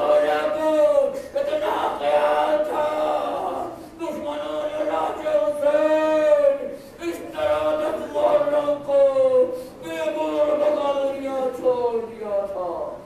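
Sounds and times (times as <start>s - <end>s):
man chanting into a microphone: 0.0s - 12.9s.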